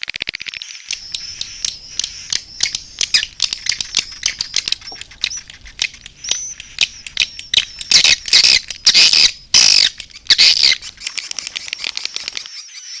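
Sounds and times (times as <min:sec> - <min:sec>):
swiftlets clicking and twittering: 0:00.2 - 0:12.8.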